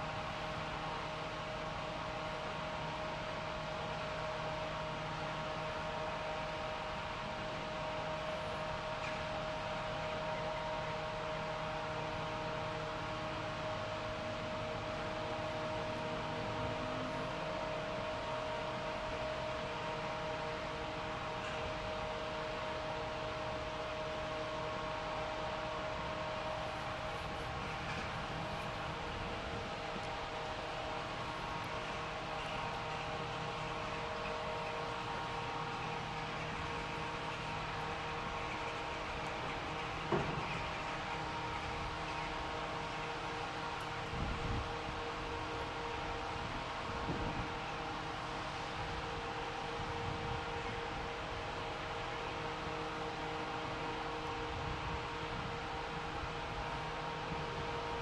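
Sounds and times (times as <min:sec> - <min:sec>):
machinery hum with whine: 0:00.0 - 0:58.0.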